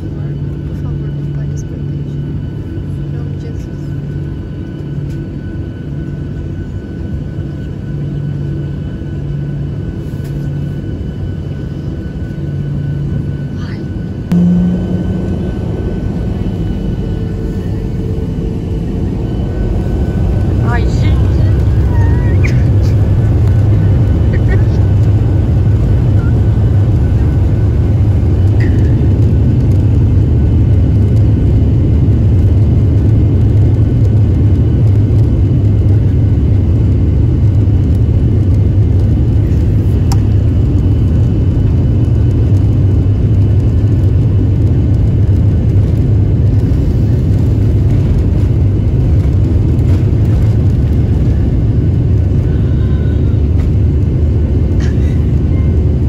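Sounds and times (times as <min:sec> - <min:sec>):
jet cabin engine rumble: 0:00.0 - 0:56.0.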